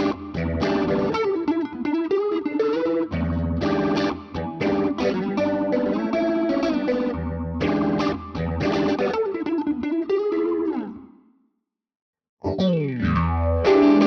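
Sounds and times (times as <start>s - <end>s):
electric guitar phrase: 0.0s - 11.1s, 12.5s - 14.0s.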